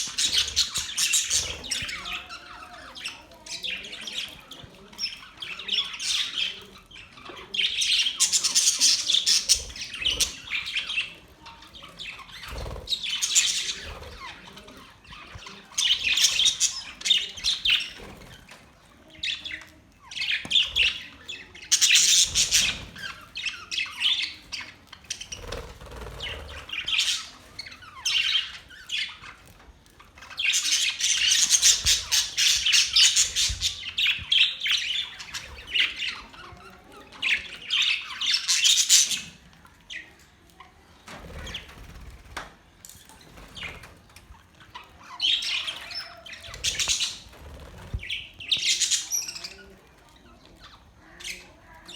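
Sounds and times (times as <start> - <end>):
budgerigars chirping and chattering: 0.0 - 51.9.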